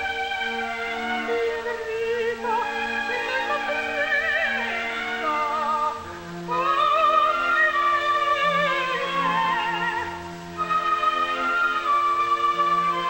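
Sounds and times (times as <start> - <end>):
operatic soprano singing: 0.0 - 13.0.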